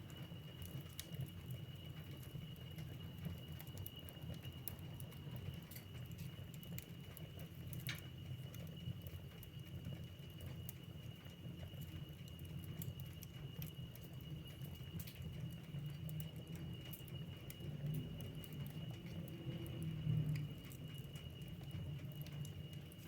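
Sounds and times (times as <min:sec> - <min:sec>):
low rumble of flames: 0:00.0 - 0:23.0
wood fire crackling: 0:00.0 - 0:23.0.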